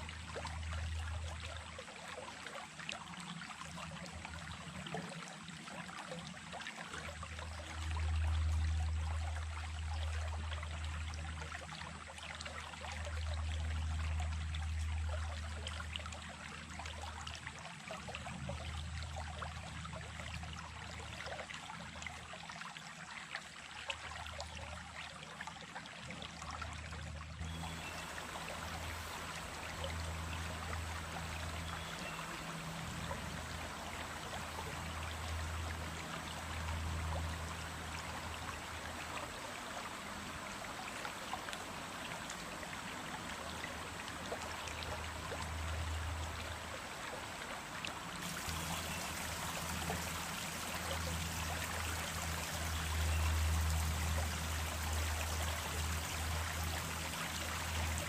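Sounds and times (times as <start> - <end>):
stream water rushing and trickling: 0.0 - 58.0.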